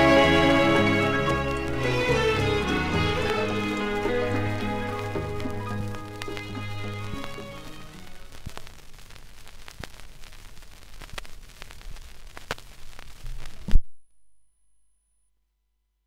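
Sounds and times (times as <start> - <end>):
vinyl crackle and hiss: 0.0 - 13.9
vinyl record pops: 0.0 - 14.0.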